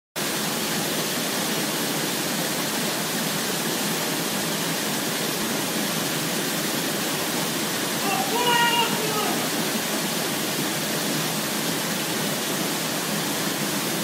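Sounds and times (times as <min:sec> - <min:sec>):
waterfall rushing: 0:00.2 - 0:14.0.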